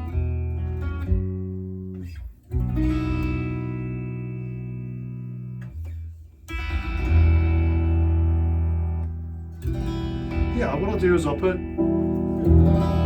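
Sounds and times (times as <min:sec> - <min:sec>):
electric guitar chords ringing: 0:00.0 - 0:05.8, 0:06.5 - 0:13.0.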